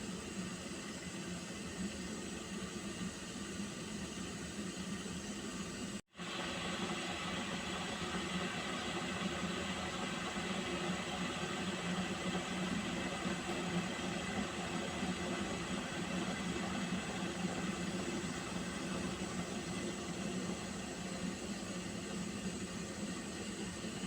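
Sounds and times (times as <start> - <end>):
hissing steam from heating water: 0.0 - 24.0.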